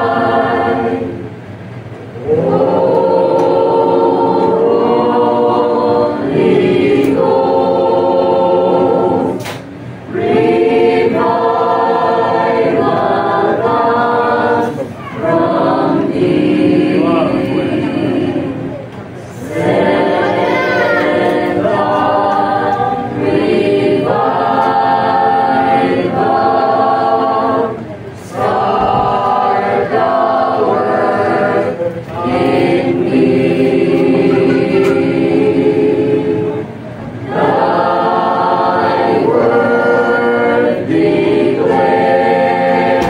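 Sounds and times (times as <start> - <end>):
choir singing a hymn: 0.0 - 43.0.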